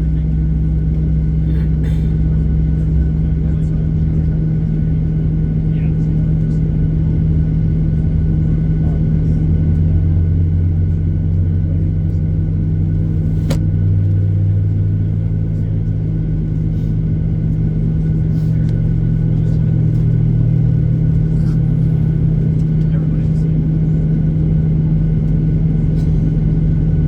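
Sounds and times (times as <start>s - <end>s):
aircraft cabin drone: 0.0s - 27.0s.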